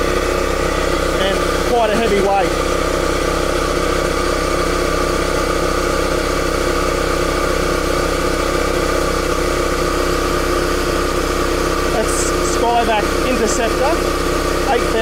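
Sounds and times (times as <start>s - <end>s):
petrol engine hum: 0.0s - 15.0s.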